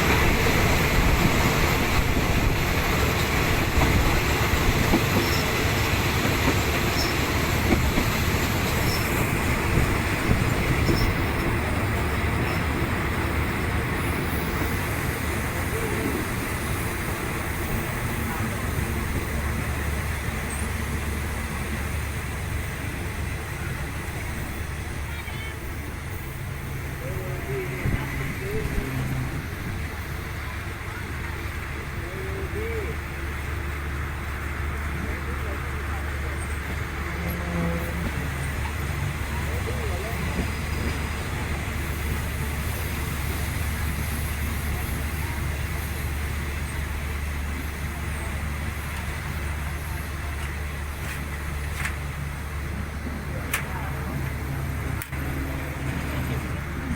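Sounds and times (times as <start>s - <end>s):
train running inside coach: 0.0s - 56.9s.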